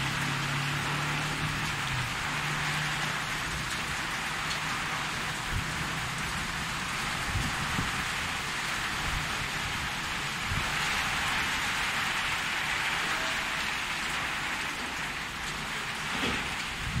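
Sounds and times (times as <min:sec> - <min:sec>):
heavy rain on pavement: 0:00.0 - 0:17.0.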